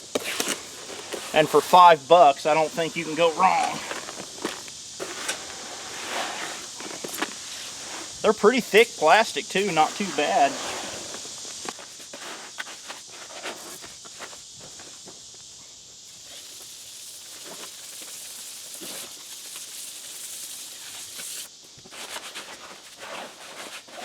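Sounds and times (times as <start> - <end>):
concrete mixing by hand: 0.0 - 13.8, 16.4 - 22.1
steady hiss: 0.0 - 24.0.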